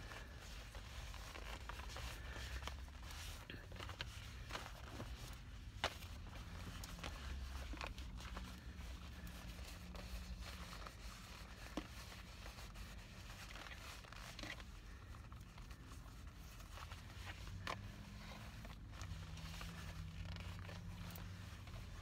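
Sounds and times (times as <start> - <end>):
leather gloves rustling: 0.0 - 22.0.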